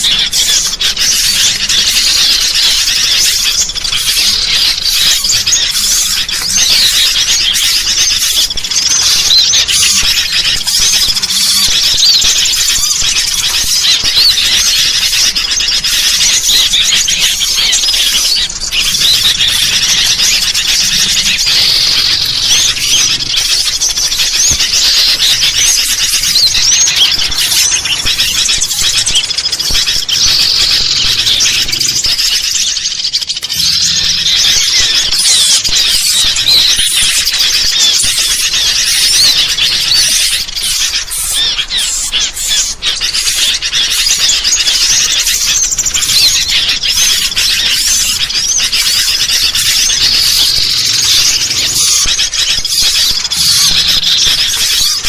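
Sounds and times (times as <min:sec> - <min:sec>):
bulbuls calling noisily: 0:00.0 - 0:55.0
small birds chirping: 0:00.0 - 0:55.0.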